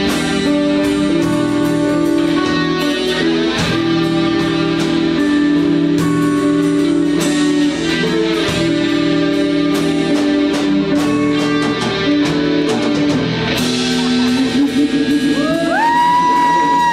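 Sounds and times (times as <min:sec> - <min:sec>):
live band music with guitar: 0:00.0 - 0:16.9.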